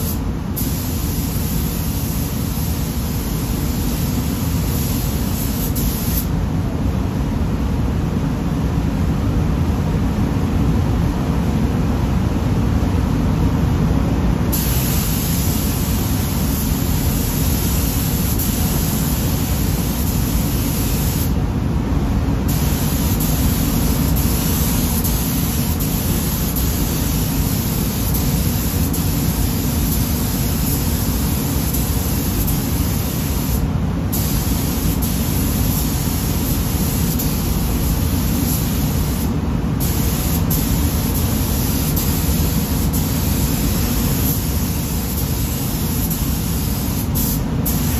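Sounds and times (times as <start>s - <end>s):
paint spray gun hissing: 0.0s - 6.3s, 14.5s - 21.4s, 22.5s - 47.9s
steady low rumble: 0.0s - 47.9s.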